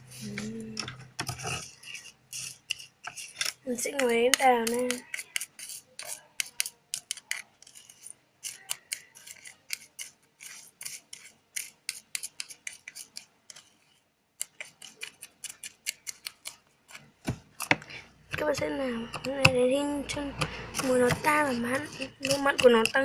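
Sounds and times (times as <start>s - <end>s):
stirrer scraping a container: 0.0s - 23.0s.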